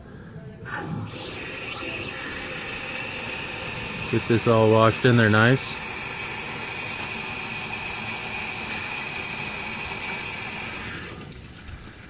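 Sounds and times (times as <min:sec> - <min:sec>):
water rushing through screen: 0:00.7 - 0:12.0
small engine running: 0:01.0 - 0:11.3.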